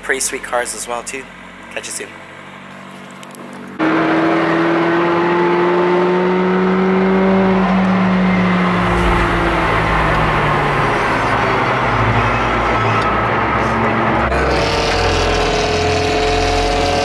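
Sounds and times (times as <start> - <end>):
tyre road noise: 0.0 - 17.0
car engine from inside cabin: 1.3 - 17.0.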